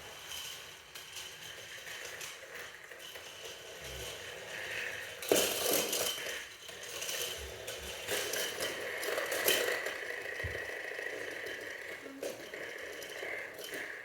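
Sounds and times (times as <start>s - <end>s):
sharp clatter: 0.0s - 14.0s
small motor whirring: 0.0s - 14.0s.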